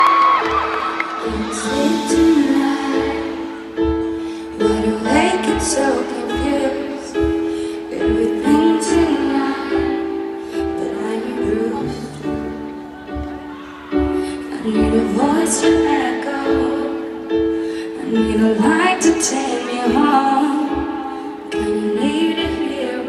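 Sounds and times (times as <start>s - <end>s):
crowd voices: 0.0s - 23.0s
live pop ballad: 0.0s - 23.0s.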